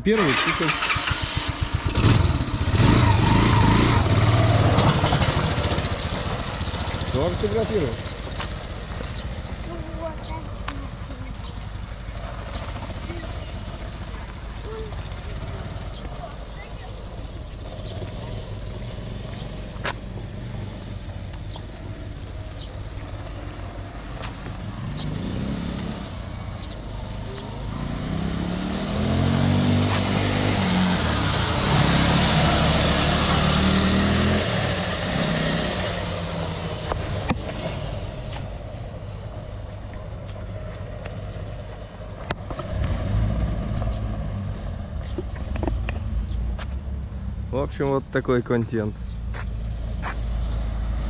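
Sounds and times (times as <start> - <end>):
motorcycle engine passing by: 0.1 - 38.6, 40.2 - 46.7.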